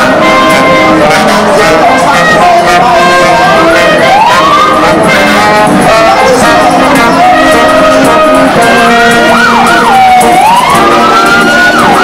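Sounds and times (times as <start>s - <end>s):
marching brass band playing: 0.0s - 12.0s.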